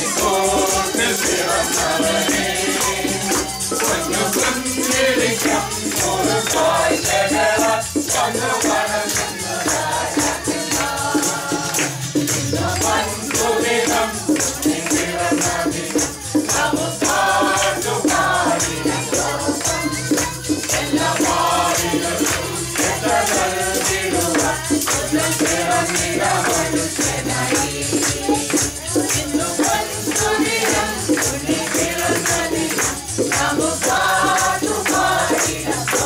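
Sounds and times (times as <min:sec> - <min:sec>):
group singing a carol: 0:00.0 - 0:36.0
shaken hand percussion: 0:00.0 - 0:36.0.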